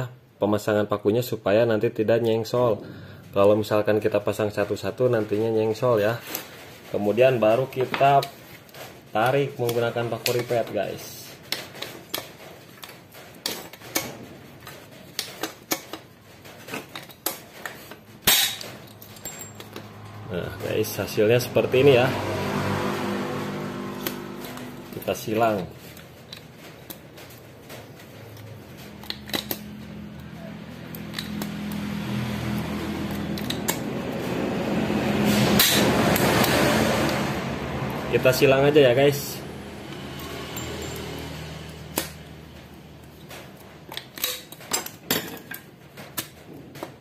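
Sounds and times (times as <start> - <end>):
mechanical hum: 1.0 - 47.0.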